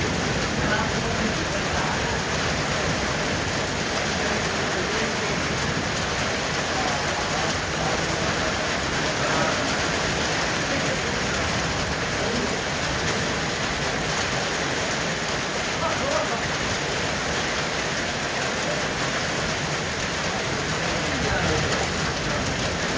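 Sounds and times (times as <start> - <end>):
heavy rain on hard surfaces: 0.0 - 22.9.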